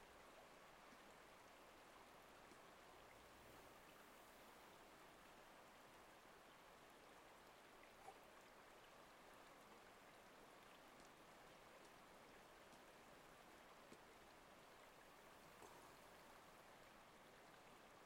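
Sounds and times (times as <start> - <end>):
faint river hiss: 0.0 - 18.0.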